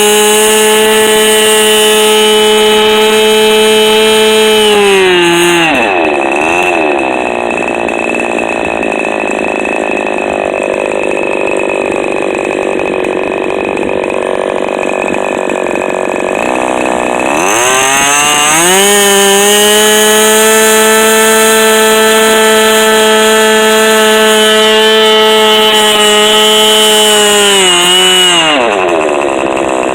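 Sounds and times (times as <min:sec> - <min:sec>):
model airplane engine running: 0:00.0 - 0:17.7, 0:18.5 - 0:29.9.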